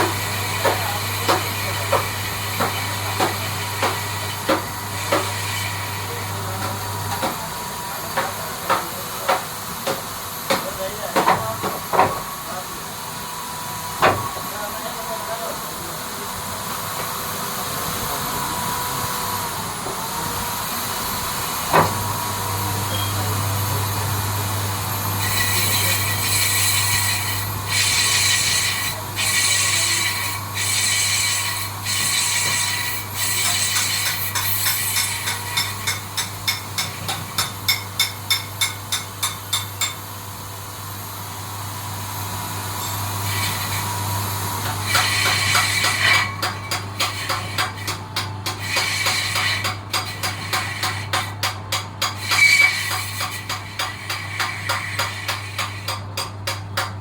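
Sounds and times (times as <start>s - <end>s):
lathe motor humming: 0.0s - 10.5s, 11.8s - 37.4s, 41.2s - 56.9s
metal being cut scraping: 0.0s - 12.2s, 17.8s - 40.0s, 42.1s - 57.0s.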